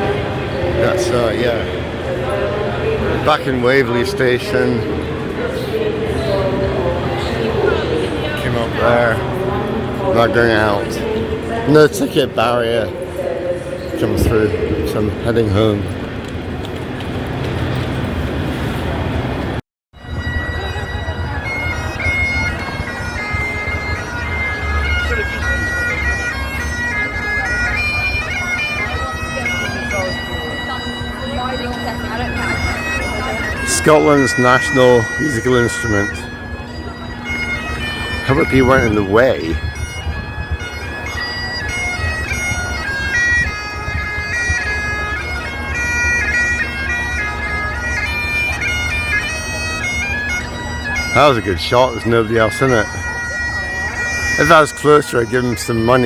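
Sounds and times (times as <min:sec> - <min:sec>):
bagpipes playing: 0:00.0 - 0:19.4, 0:20.0 - 0:56.0.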